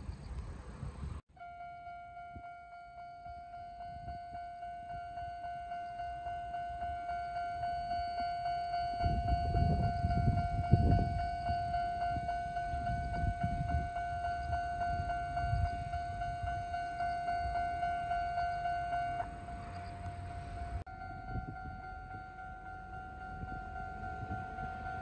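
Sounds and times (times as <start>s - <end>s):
level-crossing alarm bell ringing: 1.3s - 25.0s.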